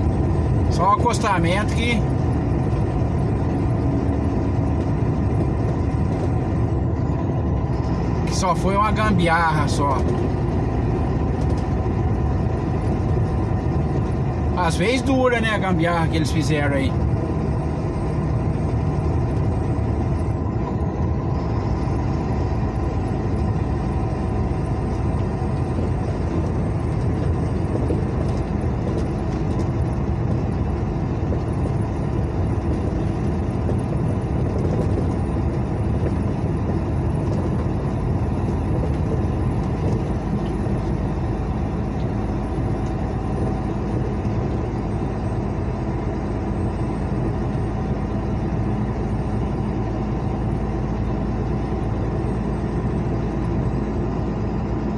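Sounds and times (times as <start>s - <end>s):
engine hum: 0.0s - 54.9s
tyres rushing on asphalt: 0.0s - 54.9s.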